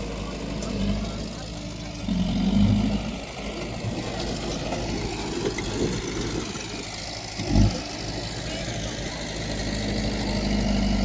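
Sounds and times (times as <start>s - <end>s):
diesel engine of earthmoving machinery: 0.0s - 11.0s.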